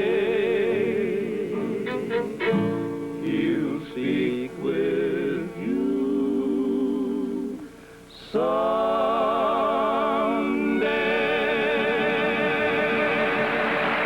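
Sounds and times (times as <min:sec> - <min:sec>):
vocal group singing held note: 0:00.0 - 0:07.7, 0:08.3 - 0:14.0.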